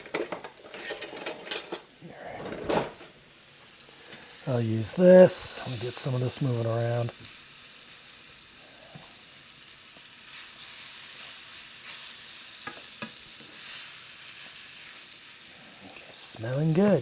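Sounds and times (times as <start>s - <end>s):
meat sizzling in oil: 3.1s - 17.0s.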